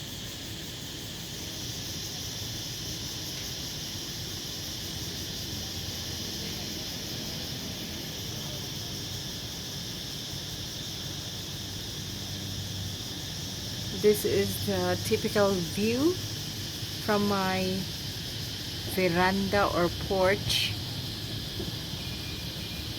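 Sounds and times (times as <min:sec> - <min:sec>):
crickets chirping: 0:00.0 - 0:22.9.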